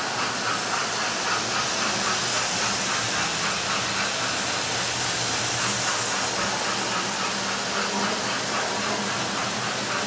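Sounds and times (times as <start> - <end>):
model steam locomotive chuffing: 0.0 - 10.0
steady hiss: 0.0 - 10.0.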